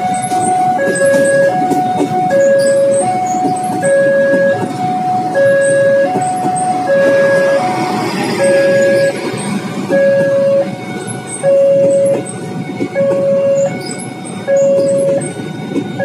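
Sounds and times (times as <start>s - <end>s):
level crossing two-note alarm: 0.0s - 12.3s, 12.9s - 15.3s
train coaches on rails: 0.0s - 16.0s.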